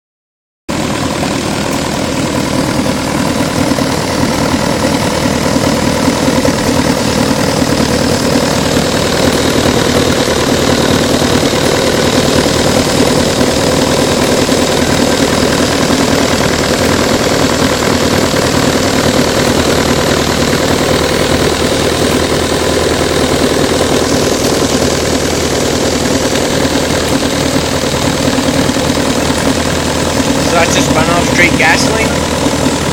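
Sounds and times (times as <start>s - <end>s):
small gasoline engine running: 0.7s - 32.9s.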